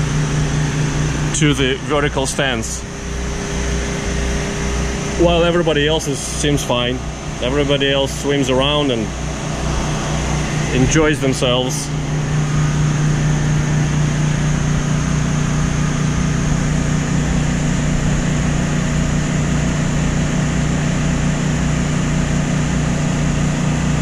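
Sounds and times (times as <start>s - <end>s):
aquarium pumps humming: 0.0s - 24.0s
low pulsing throb: 0.0s - 24.0s.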